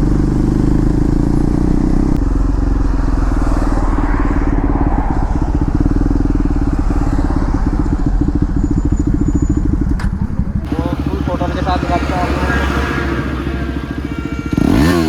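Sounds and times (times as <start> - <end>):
motorcycle engine exhaust beat: 0.0 - 15.0.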